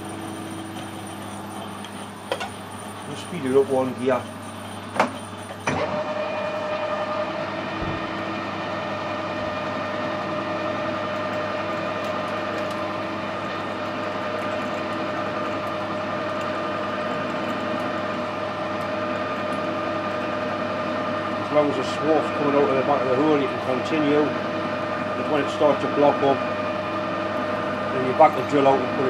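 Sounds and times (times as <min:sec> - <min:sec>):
lathe whining: 0:00.0 - 0:29.0.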